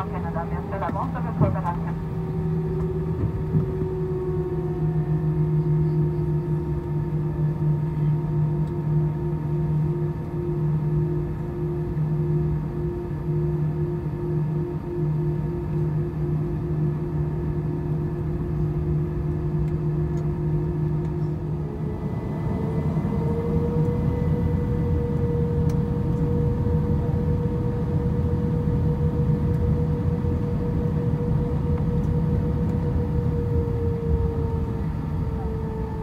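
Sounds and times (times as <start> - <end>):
jet engines humming: 0.0 - 36.0.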